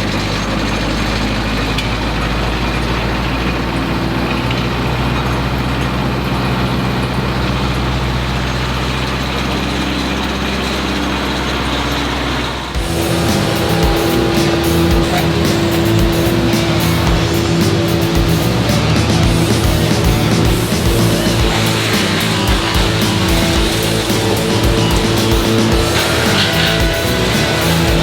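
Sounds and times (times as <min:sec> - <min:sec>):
wood chipper diesel engine running: 0:00.0 - 0:28.0.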